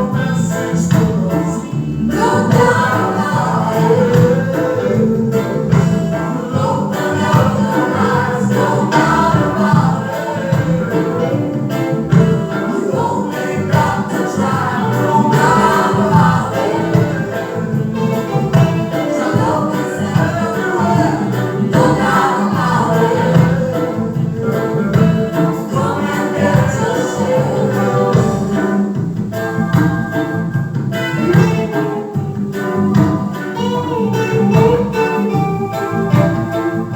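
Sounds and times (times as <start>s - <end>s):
band with steady beat: 0.0s - 36.9s
group of voices singing: 0.0s - 36.9s.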